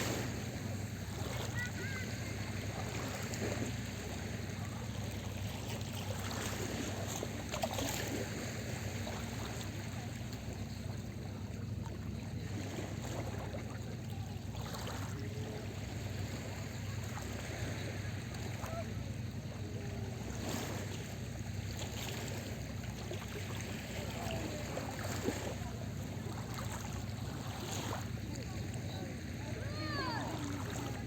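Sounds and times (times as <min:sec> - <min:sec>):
small waves washing onto shore: 0:00.0 - 0:31.0.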